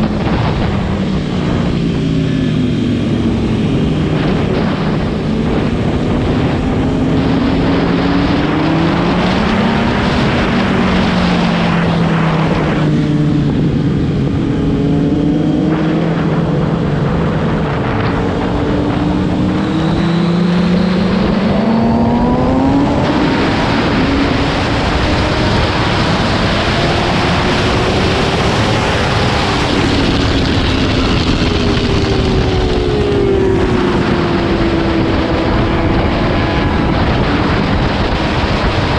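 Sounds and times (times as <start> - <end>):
constant rushing noise: 0.0 - 38.9
motorcycle engine at speed: 0.0 - 38.9.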